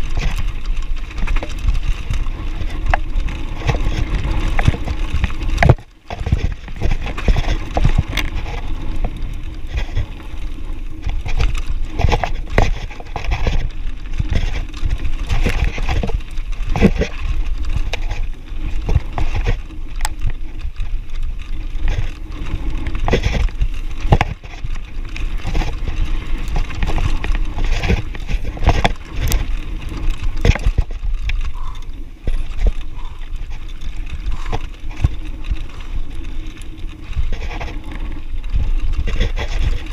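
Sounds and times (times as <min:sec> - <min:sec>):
bike rattling: 0:00.0 - 0:39.9
bike tyres crunching over stones: 0:00.0 - 0:39.9
wind rumble on microphone: 0:00.0 - 0:39.9.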